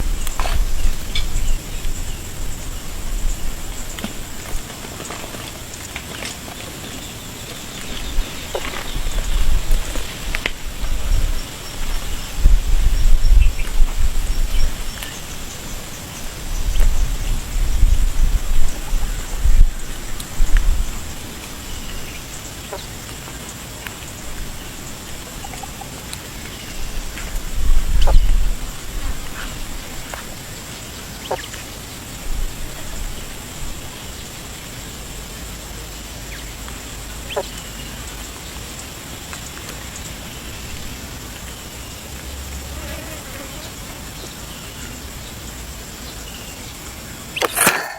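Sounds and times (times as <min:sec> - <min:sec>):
outdoor background noise: 0:00.0 - 0:47.9.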